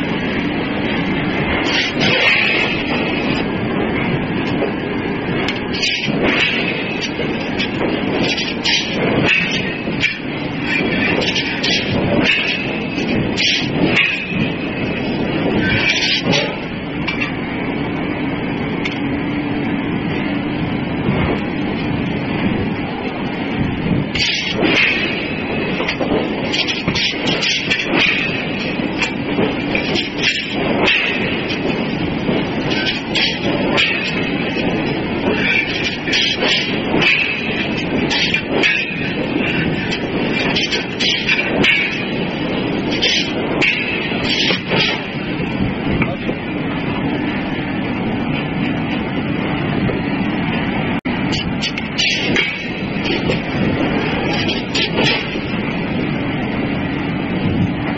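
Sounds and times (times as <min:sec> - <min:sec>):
rumbling machinery: 0:00.0 - 0:57.9.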